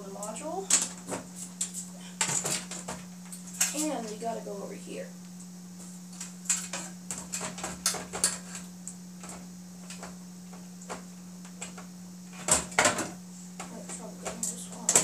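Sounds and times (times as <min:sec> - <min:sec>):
low hum from panel: 0:00.0 - 0:15.0.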